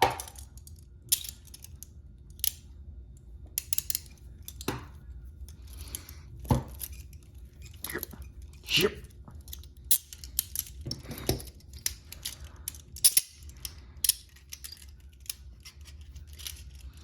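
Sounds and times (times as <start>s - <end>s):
handcuffs clicking and clinking: 0.1s - 2.6s, 3.6s - 4.7s, 5.5s - 17.0s.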